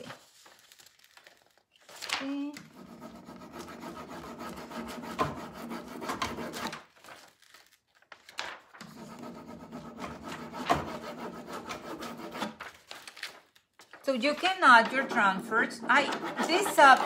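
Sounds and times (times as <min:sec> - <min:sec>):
scratchy rubbing on plastic sheet: 0:00.0 - 0:07.4, 0:08.5 - 0:17.0.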